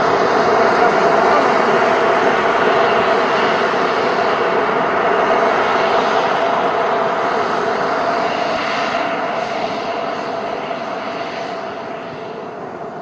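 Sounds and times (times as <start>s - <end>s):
miniature jet turbines running: 0.0s - 13.0s.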